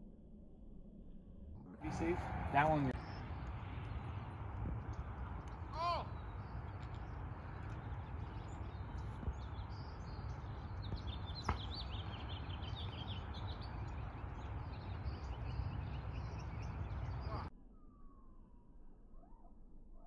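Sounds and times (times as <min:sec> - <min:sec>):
low outdoor rumble: 0:00.0 - 0:18.3
small birds chirping: 0:01.8 - 0:18.1.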